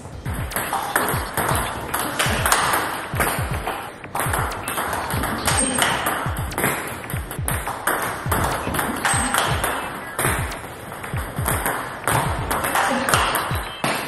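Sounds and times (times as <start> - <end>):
ping pong ball bouncing on table: 0.6 - 14.0
ping pong ball off rackets: 0.6 - 14.0.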